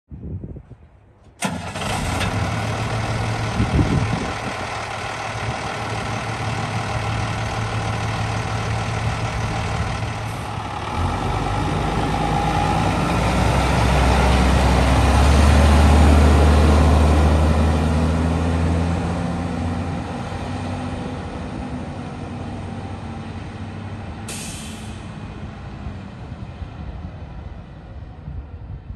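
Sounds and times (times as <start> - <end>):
diesel truck engine driving off: 1.4 - 27.9.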